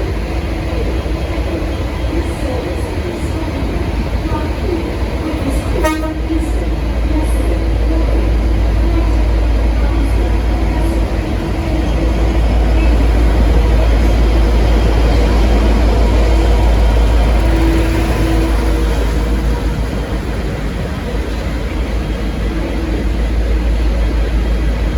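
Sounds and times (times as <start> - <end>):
diesel locomotive rumble: 0.0 - 24.9.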